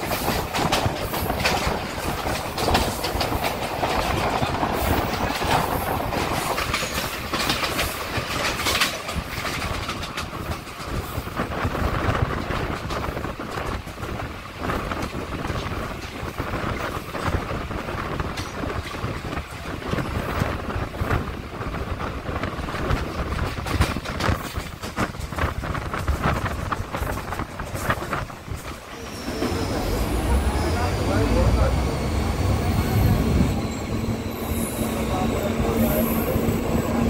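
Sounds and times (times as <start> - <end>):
train rumbling: 0.0 - 37.0
wheels clattering on rails: 0.0 - 37.0
wind buffeting microphone: 0.0 - 37.0.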